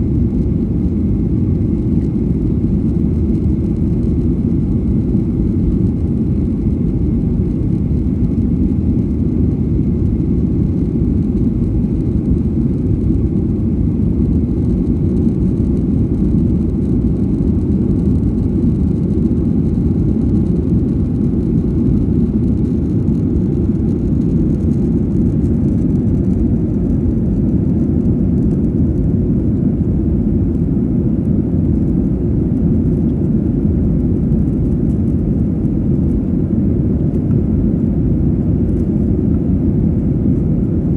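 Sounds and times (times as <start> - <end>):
airliner cabin noise: 0.0 - 40.9.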